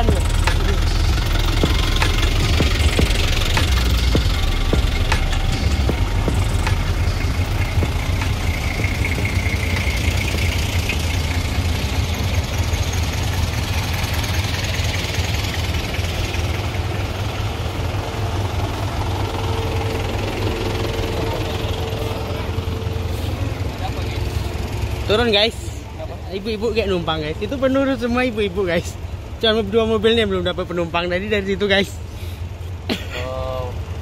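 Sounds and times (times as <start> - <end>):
off-road vehicle engine rumbling: 0.0 - 34.0.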